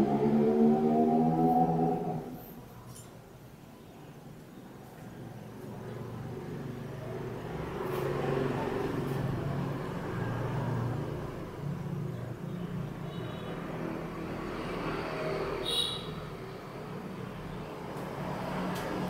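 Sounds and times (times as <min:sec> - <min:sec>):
passing motor vehicle rumble: 0:00.0 - 0:02.8, 0:05.3 - 0:19.0.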